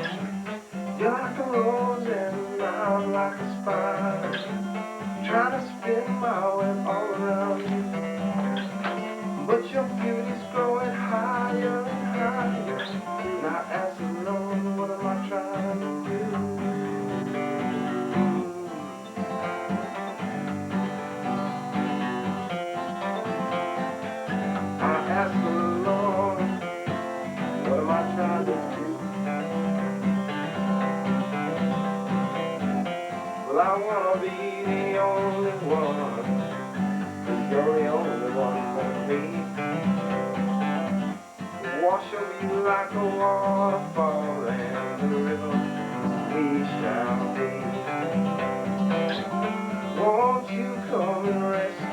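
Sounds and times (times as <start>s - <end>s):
man singing sliding notes: 0.0s - 20.2s, 22.7s - 30.6s, 31.2s - 40.3s, 41.2s - 51.9s
acoustic guitar: 0.0s - 51.9s.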